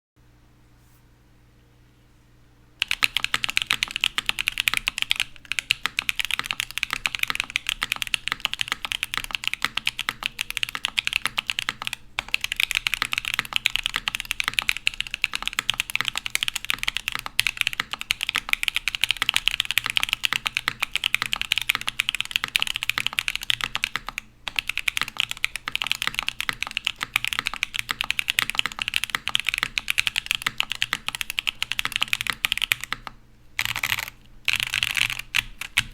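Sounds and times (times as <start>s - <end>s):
mechanical keyboard typing: 2.8s - 35.9s.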